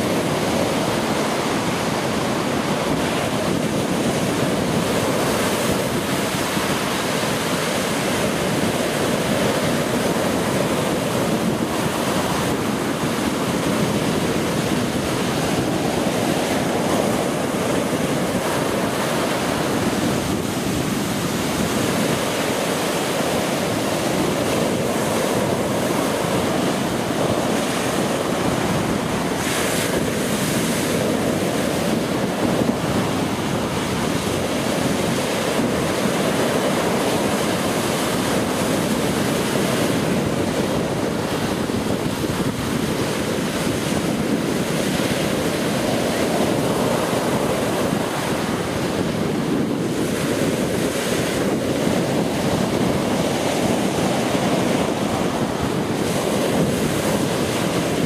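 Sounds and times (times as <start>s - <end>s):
surf breaking on beach: 0.0s - 58.0s
wind buffeting microphone: 0.0s - 58.0s.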